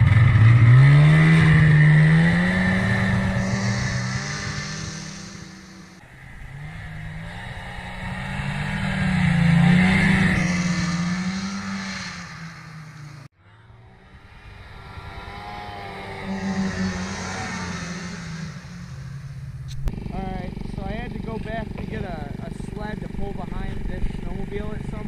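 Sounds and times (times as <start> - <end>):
snowmobile engine under throttle: 0.0 - 25.0.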